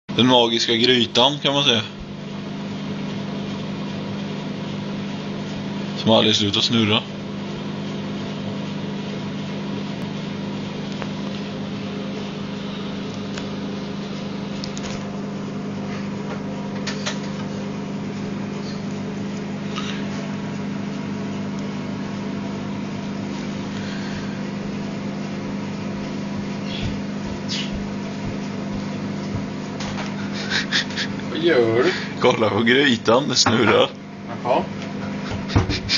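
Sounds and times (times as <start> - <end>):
appliance motor hum: 0.1 - 35.9.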